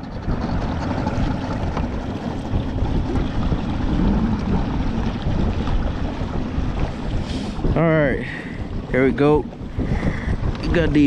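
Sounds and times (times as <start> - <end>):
water lapping against hull: 0.0 - 11.0
wind buffeting microphone: 0.0 - 11.0.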